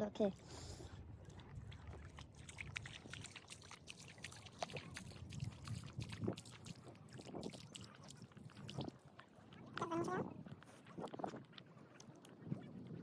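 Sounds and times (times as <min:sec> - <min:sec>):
water trickling over mudflat: 0:00.0 - 0:13.0.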